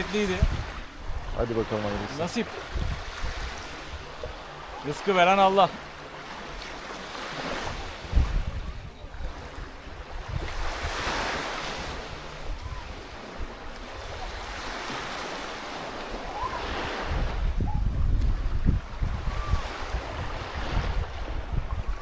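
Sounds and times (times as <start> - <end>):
wind buffeting microphone: 0.0 - 4.8, 7.3 - 22.0
sea waves washing on shore: 0.0 - 22.0.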